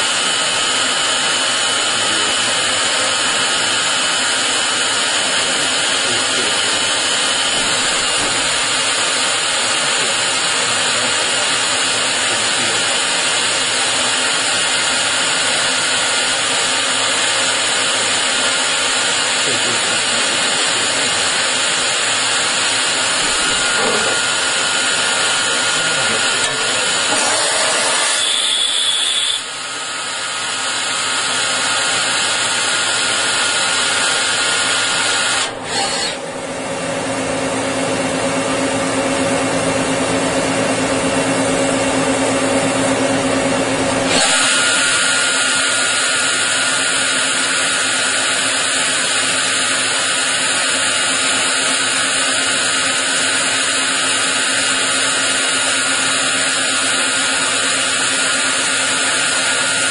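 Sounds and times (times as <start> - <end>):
lathe cutting and spindle whine: 0.0 - 59.9.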